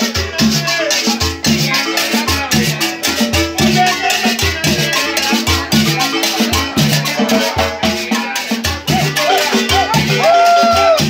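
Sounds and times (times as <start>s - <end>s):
latin dance music: 0.0s - 11.0s.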